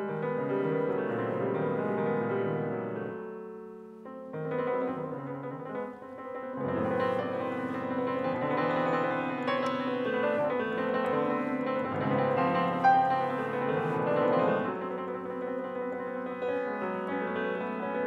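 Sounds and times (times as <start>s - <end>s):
solo grand piano: 0.0s - 18.0s.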